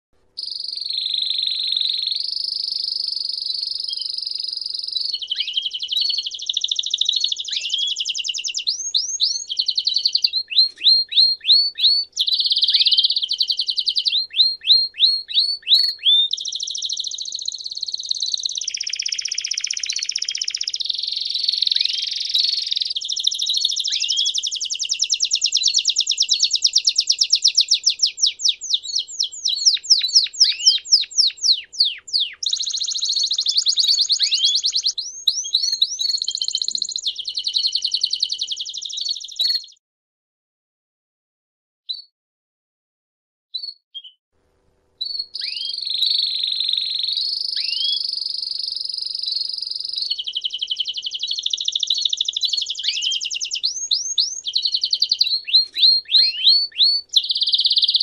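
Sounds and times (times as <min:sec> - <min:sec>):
canary singing trills: 0:00.4 - 0:39.8, 0:45.0 - 0:58.0.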